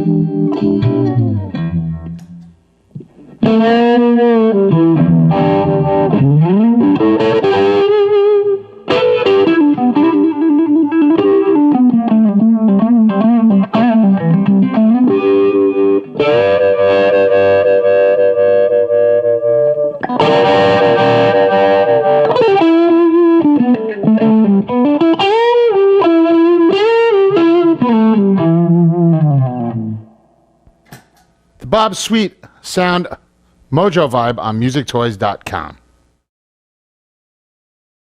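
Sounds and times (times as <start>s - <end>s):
electric guitar lead with vibe effect: 0.0s - 30.9s.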